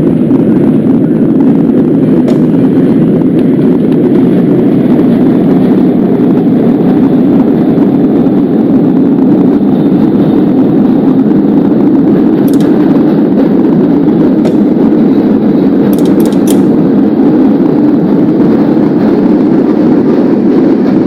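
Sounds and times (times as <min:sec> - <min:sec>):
subway train rumbling on tracks: 0:00.0 - 0:21.0.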